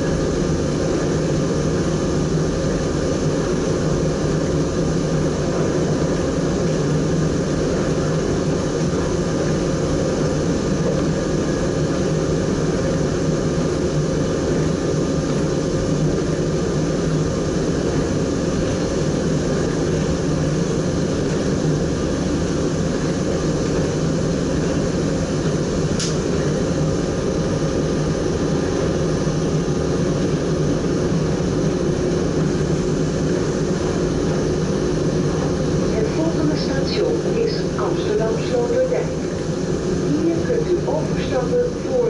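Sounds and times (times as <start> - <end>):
train cab running rumble: 0.0 - 42.0.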